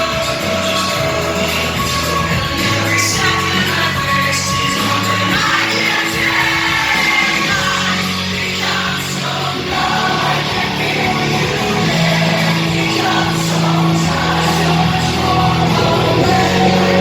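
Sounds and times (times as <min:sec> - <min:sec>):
low bass notes: 0:00.0 - 0:17.0
person singing: 0:00.0 - 0:17.0
rock band playing: 0:00.0 - 0:17.0.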